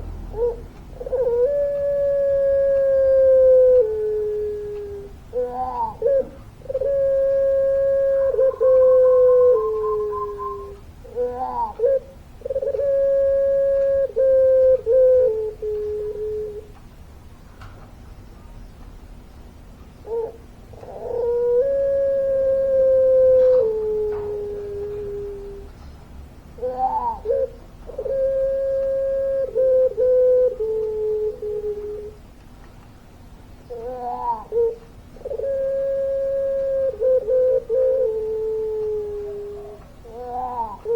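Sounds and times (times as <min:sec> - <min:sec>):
dove cooing: 0:00.0 - 0:16.8, 0:20.0 - 0:25.9, 0:26.6 - 0:32.4, 0:33.6 - 0:40.9.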